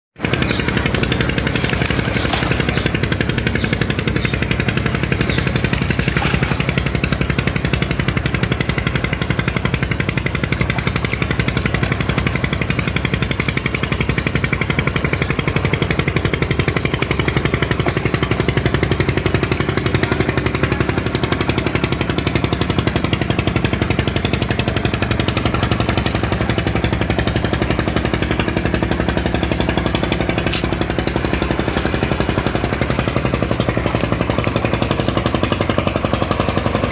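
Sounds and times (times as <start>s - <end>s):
boat diesel engine clattering: 0.2s - 36.9s.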